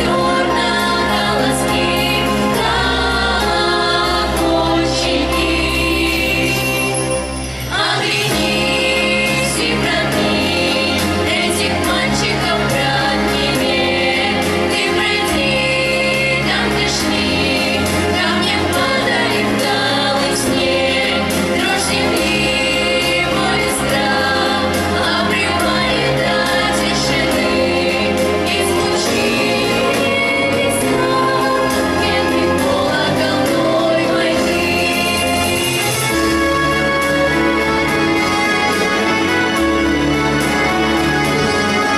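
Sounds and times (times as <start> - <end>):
children's group singing: 0.0 - 7.0, 7.7 - 36.3
instrumental accompaniment with beat: 0.0 - 41.9.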